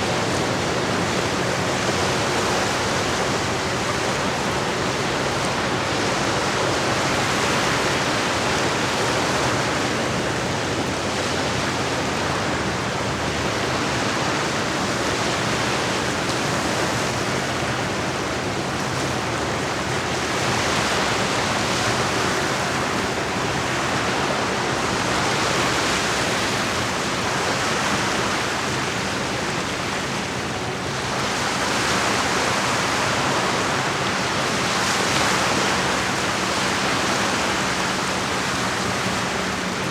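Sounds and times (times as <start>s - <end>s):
lake water washing against shore: 0.0s - 39.9s.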